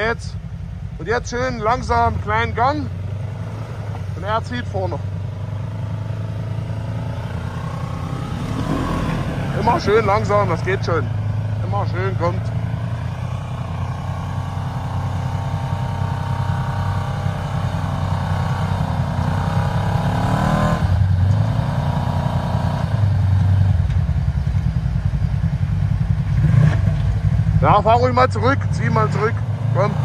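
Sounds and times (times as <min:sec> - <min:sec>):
utility vehicle engine under load: 0:00.0 - 0:30.0.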